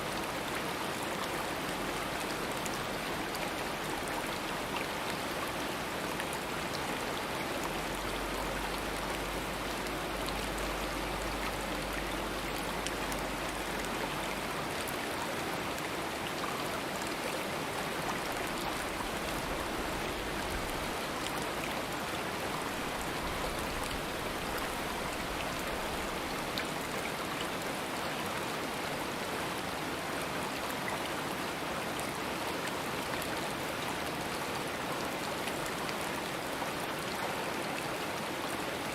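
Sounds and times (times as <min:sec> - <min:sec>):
stream flowing water: 0:00.0 - 0:38.9.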